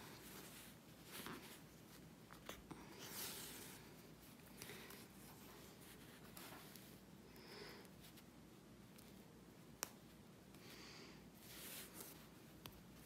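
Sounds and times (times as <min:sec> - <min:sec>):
fingers rustling thread and fabric: 0:00.0 - 0:13.0.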